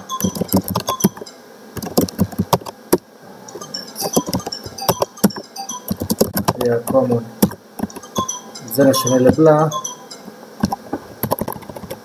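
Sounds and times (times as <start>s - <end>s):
keyboard typing clicks: 0.0s - 2.8s, 3.5s - 9.9s, 10.6s - 12.0s.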